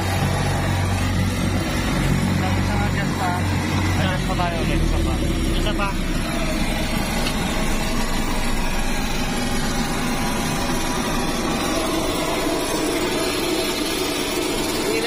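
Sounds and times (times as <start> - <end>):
turboprop engine running: 0.0 - 15.0.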